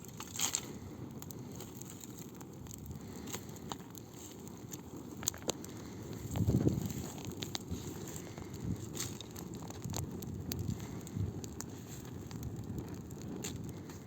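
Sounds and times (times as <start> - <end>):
campfire crackling and popping: 0.0 - 14.0
low rush of flame: 0.0 - 14.0.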